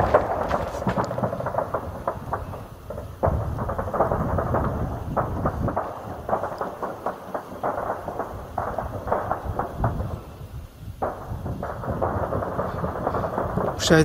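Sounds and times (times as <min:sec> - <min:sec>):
distant gunfire crackle: 0:00.0 - 0:14.0.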